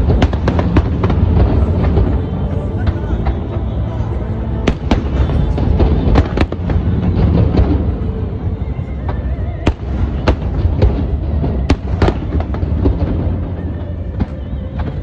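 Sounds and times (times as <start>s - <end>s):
rumble of overlapping explosions: 0.0s - 15.0s.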